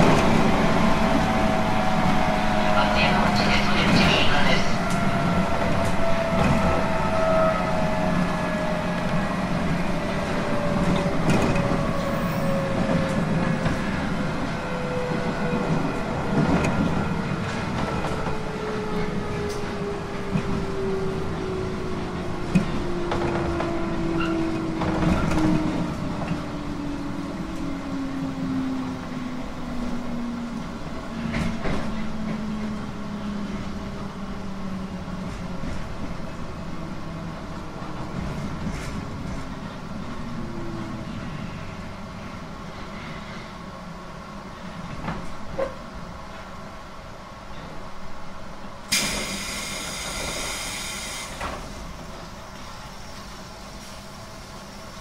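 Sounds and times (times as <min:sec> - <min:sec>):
electric train running on rails: 0:00.0 - 0:55.0.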